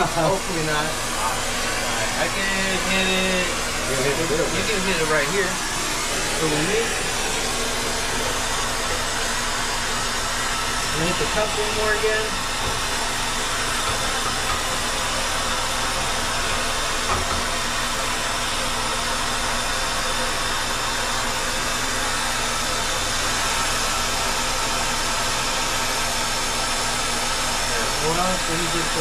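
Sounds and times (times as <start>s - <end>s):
torch flame hissing: 0.0s - 29.0s.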